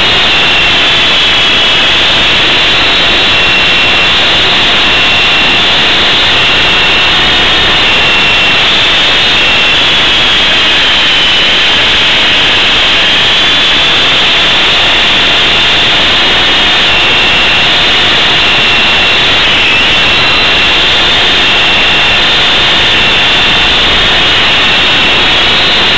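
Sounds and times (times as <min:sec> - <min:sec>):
rotor rushing noise: 0:00.0 - 0:10.9, 0:15.5 - 0:25.9
rc helicopter motor whine: 0:00.0 - 0:25.9.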